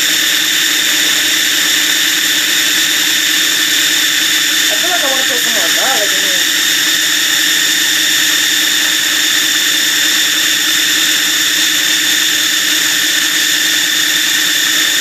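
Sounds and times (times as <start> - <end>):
food processor motor whining: 0.0 - 15.0.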